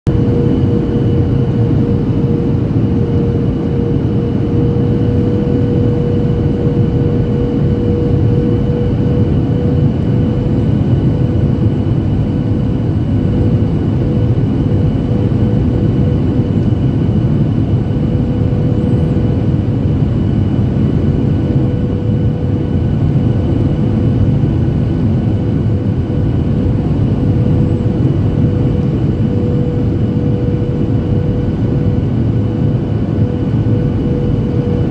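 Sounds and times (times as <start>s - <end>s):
airplane cabin engine rumble: 0.1s - 34.9s
high whine: 0.1s - 34.9s.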